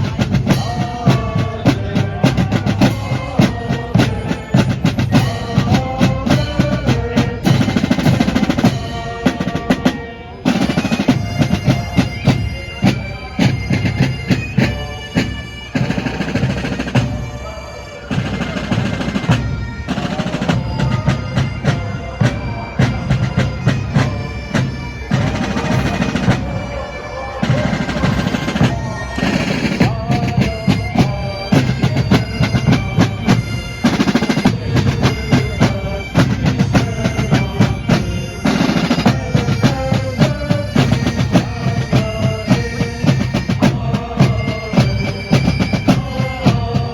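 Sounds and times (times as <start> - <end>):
bagpipes playing: 0.0 - 46.9.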